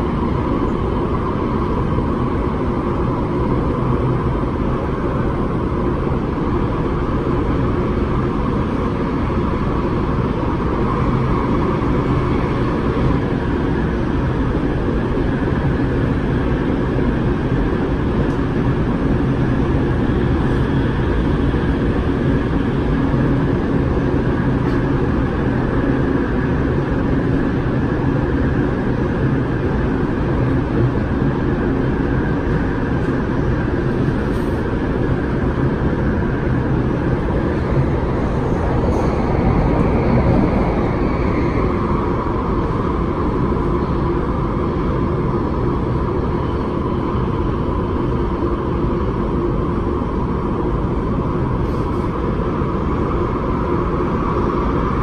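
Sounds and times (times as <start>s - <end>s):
train carriage rumble and hum: 0.0s - 55.0s.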